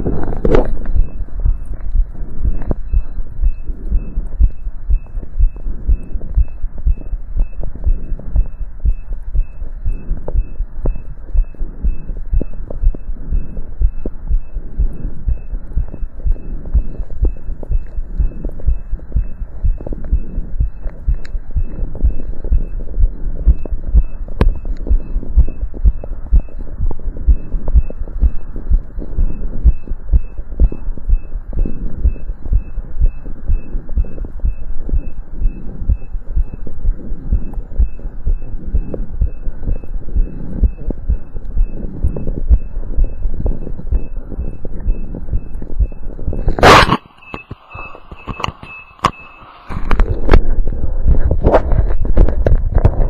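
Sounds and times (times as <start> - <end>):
heartbeat through stethoscope: 0.0 - 53.0.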